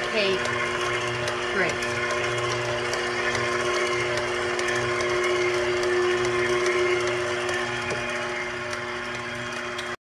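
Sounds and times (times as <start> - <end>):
stand mixer running: 0.0 - 10.0.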